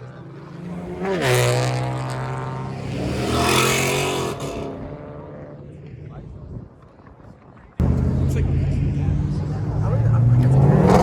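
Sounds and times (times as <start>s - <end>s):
car engine revving: 0.0s - 5.8s, 7.8s - 11.0s.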